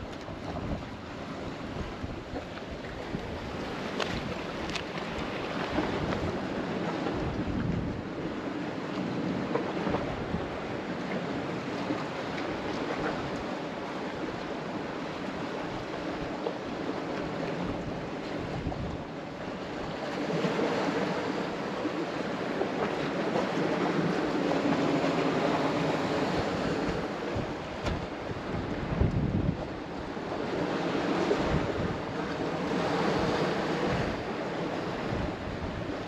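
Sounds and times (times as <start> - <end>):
wind buffeting microphone: 0.0 - 13.6, 15.4 - 21.5, 22.5 - 36.0
sea surf: 0.0 - 36.0.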